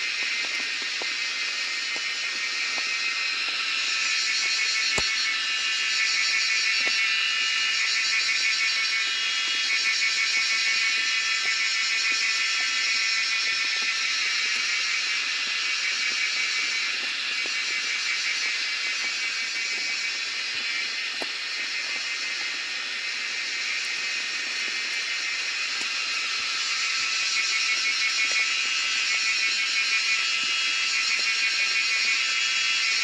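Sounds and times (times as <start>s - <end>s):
insect chorus buzzing: 0.0s - 33.0s.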